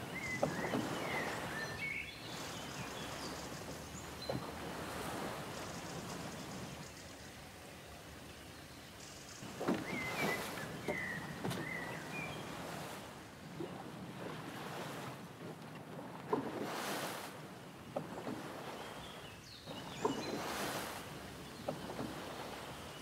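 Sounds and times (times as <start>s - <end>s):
oars knocking: 0.0s - 6.8s, 9.4s - 17.2s, 17.8s - 23.0s
oars splashing in water: 0.0s - 23.0s.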